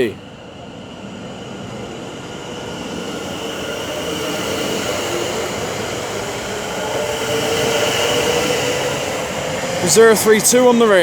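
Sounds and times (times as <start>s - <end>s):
train wheels on rails: 0.8s - 11.0s.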